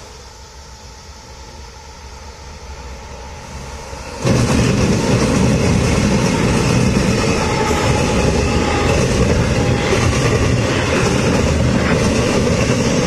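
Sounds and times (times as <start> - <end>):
locomotive engine and rail noise: 0.0 - 13.0
train rumble: 0.0 - 13.0.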